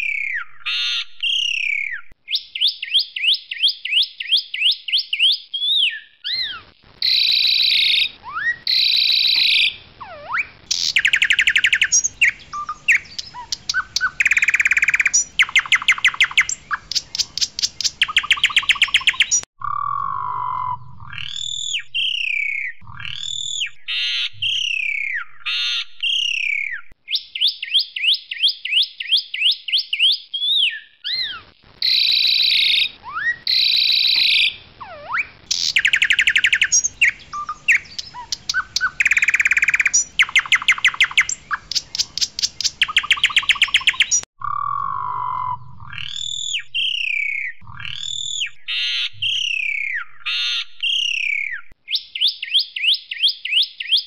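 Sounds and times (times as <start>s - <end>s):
starling whistling song: 0.0s - 54.0s.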